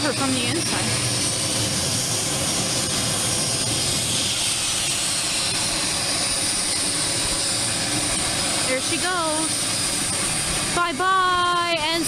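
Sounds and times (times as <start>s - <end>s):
aircraft engines roaring: 0.0s - 12.0s.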